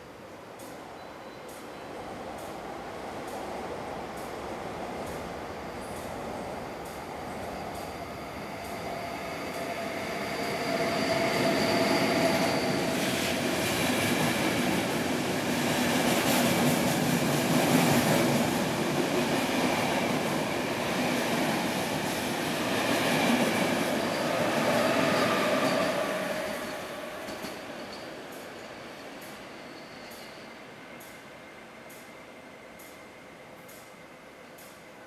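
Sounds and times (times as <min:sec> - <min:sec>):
train wheels rumbling on rails: 0:02.2 - 0:34.9.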